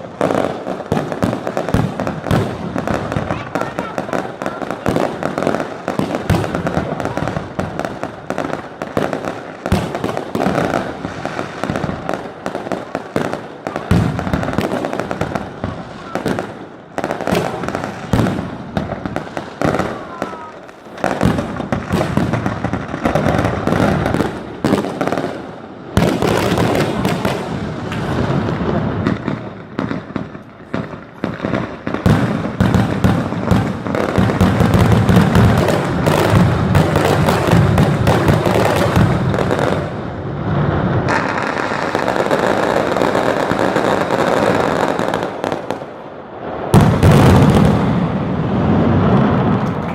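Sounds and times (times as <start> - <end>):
fireworks crackling bangs: 0.0 - 49.9.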